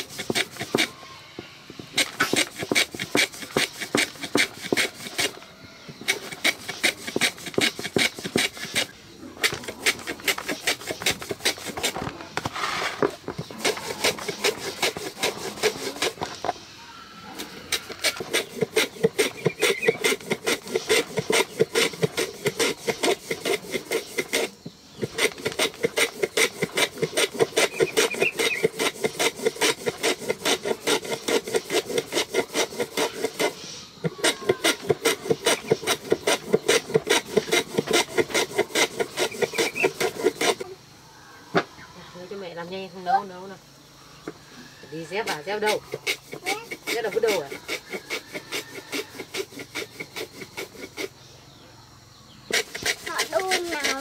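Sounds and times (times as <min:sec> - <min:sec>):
rasping hand scraping: 0:00.0 - 0:16.6, 0:17.2 - 0:40.7, 0:45.0 - 0:51.2, 0:52.4 - 0:54.0.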